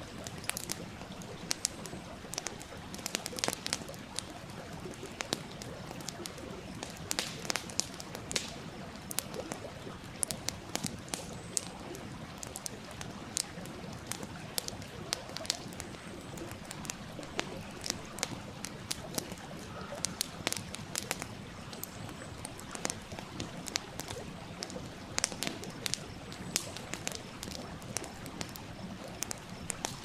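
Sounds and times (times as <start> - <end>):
flowing stream: 0.0 - 30.0
wood fire crackling and popping: 0.0 - 30.0.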